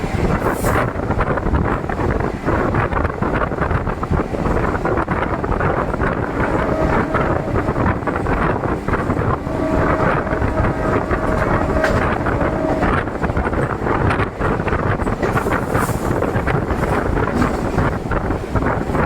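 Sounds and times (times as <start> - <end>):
train wheels rumbling on track: 0.0 - 19.0
wind buffeting microphone: 0.0 - 19.0.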